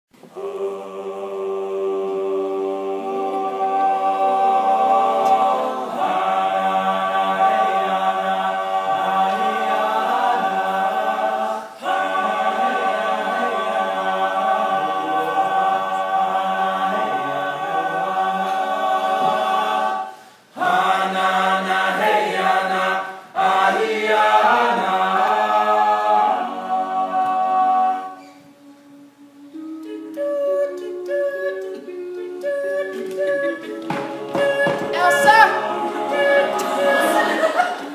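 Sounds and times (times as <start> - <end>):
male group singing in harmony: 0.2 - 28.6, 29.4 - 37.9.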